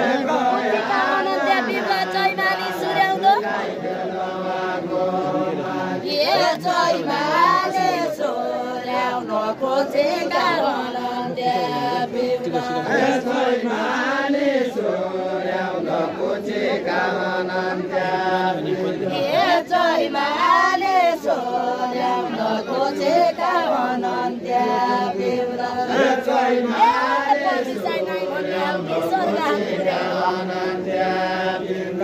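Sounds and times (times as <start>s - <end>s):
group singing a folk song: 0.0s - 32.0s.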